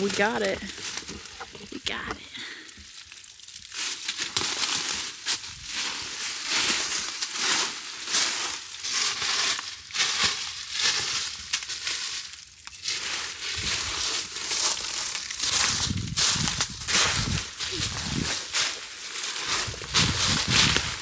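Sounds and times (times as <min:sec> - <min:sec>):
dry leaf litter crunching: 0:00.0 - 0:21.0.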